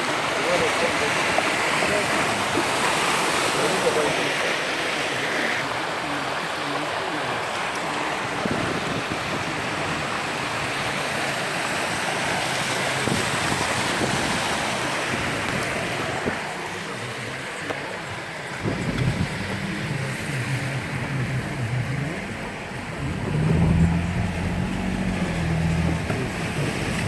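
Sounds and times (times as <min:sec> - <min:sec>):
rainwater rushing in street: 0:00.0 - 0:27.0.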